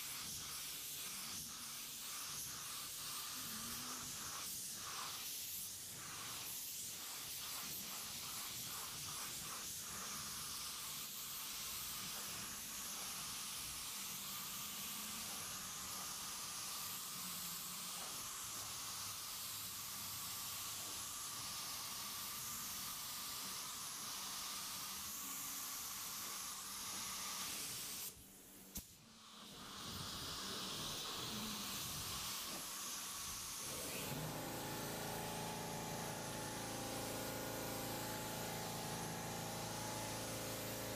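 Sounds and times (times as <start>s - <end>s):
paint spray gun hissing: 0.0s - 40.9s.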